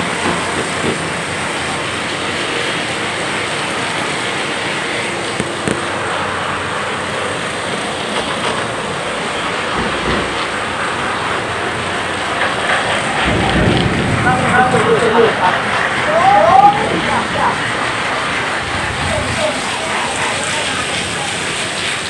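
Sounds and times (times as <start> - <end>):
heavy rain on umbrella and pavement: 0.0 - 22.0.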